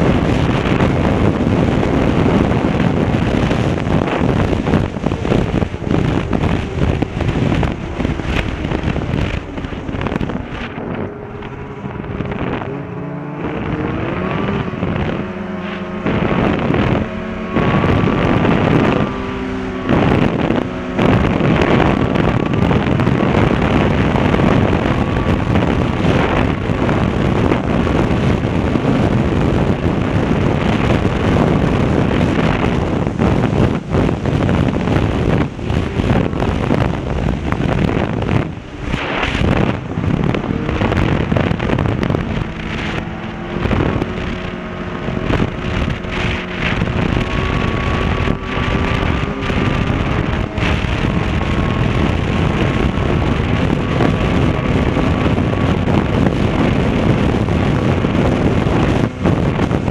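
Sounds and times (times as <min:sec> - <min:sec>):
snowmobile engine running: 0:00.0 - 0:59.9
wind buffeting microphone: 0:00.0 - 0:59.9.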